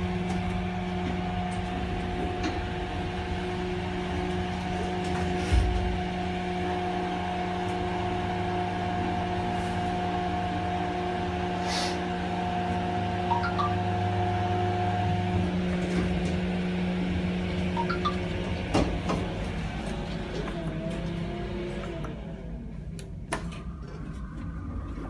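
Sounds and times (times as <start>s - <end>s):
elevator pump motor humming: 0.0s - 25.0s.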